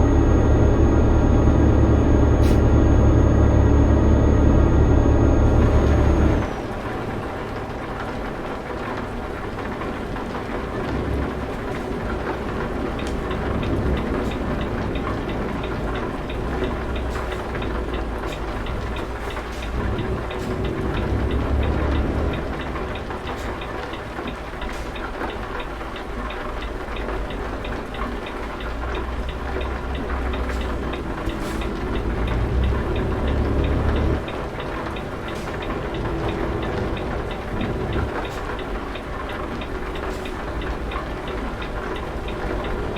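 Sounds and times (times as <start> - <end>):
heavy truck rumbling: 0.0 - 42.9.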